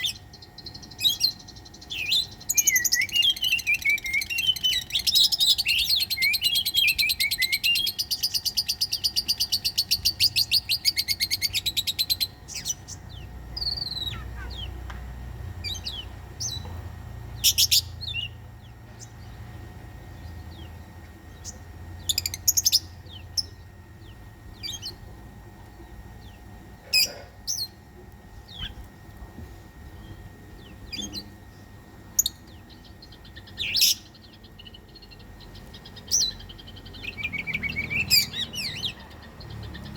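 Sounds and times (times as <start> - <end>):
songbird chattering and chirping: 0.0 - 28.9, 29.8 - 39.9.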